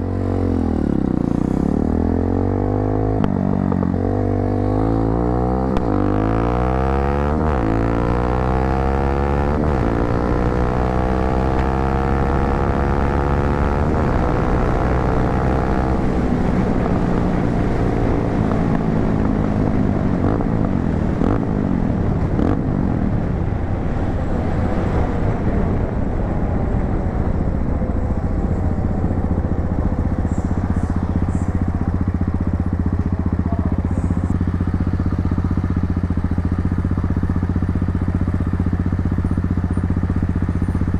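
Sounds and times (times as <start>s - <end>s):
motorcycle accelerating: 0.0s - 40.9s.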